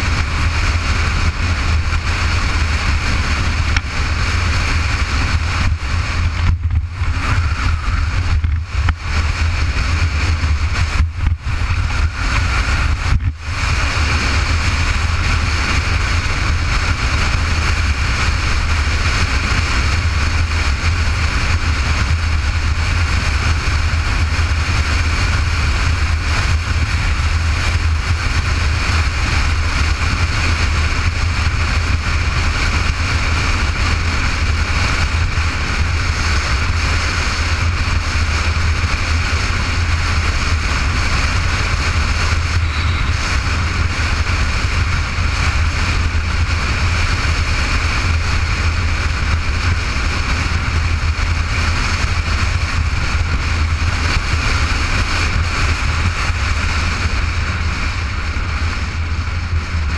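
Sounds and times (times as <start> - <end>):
motorcycle engine drone: 0.0 - 59.9
wind rushing over microphone: 0.0 - 59.9.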